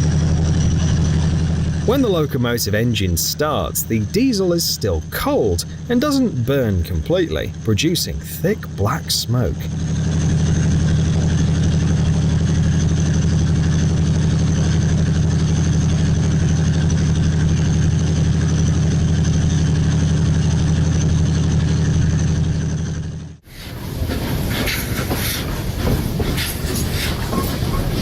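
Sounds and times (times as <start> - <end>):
diesel locomotive engine droning: 0.0 - 28.0.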